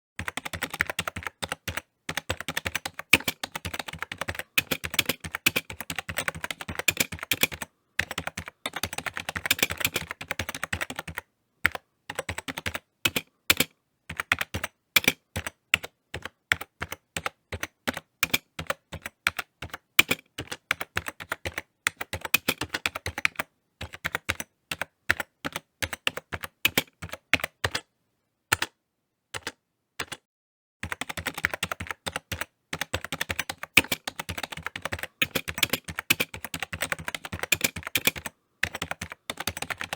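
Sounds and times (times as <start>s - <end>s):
computer keyboard typing: 0.2s - 27.9s, 29.4s - 30.2s, 30.8s - 39.9s.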